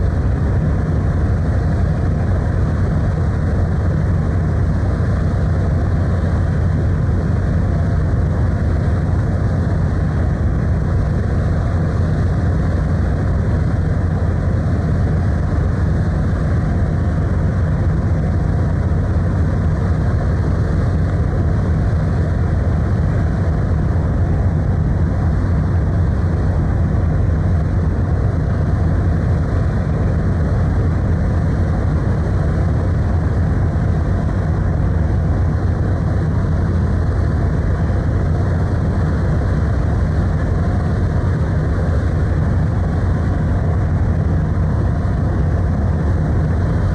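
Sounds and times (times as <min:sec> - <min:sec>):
ferry engine low rumble: 0:00.0 - 0:46.9.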